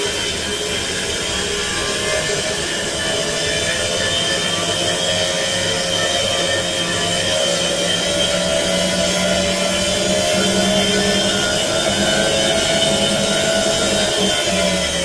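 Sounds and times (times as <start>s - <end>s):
washing machine drone and whine: 0.0s - 15.0s.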